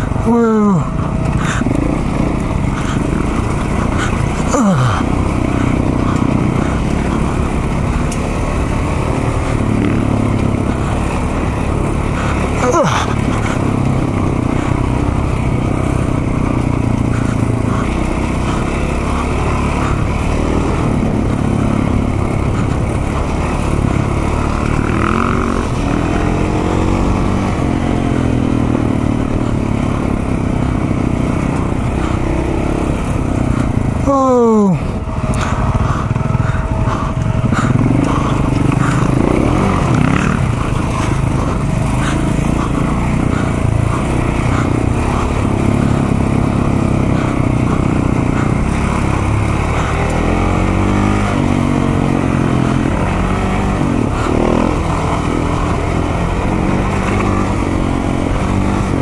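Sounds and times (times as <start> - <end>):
dirt motorcycle engine revving: 0.0 - 59.0.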